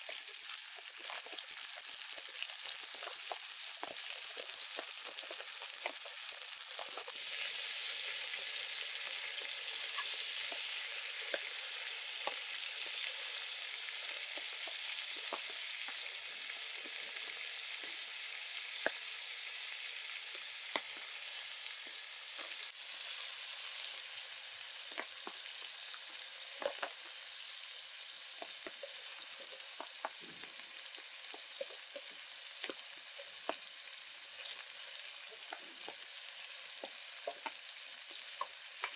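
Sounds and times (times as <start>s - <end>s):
meat sizzling in a pan: 0.0s - 38.9s.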